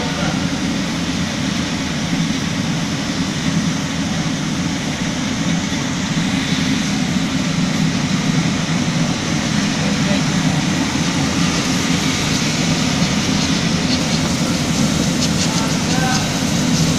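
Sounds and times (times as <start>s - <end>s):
even rushing noise: 0.0s - 16.9s
machine humming: 0.0s - 16.9s.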